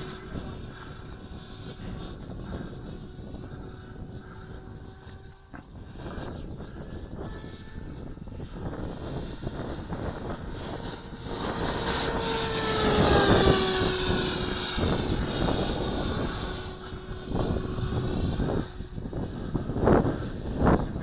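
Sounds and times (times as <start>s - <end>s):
model jet fan whining: 0.0s - 21.0s.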